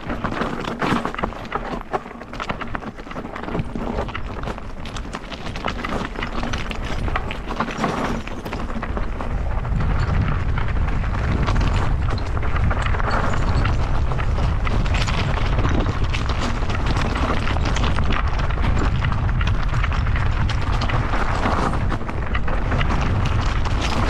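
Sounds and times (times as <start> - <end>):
mountain bike rattling: 0.0 - 24.0
wind rumble on microphone: 0.0 - 24.0.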